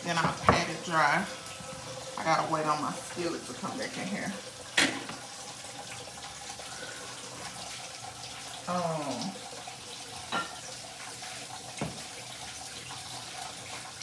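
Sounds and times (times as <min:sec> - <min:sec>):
tap water running: 0:00.0 - 0:14.0.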